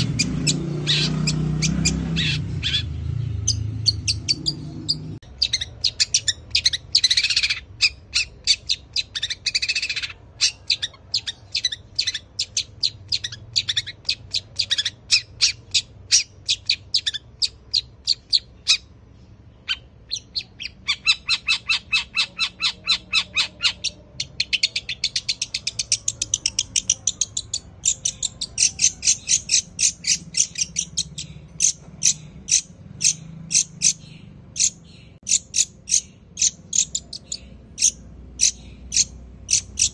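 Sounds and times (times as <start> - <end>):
bird singing chattering notes: 0.0 - 39.9
sparrow calls: 0.0 - 39.9.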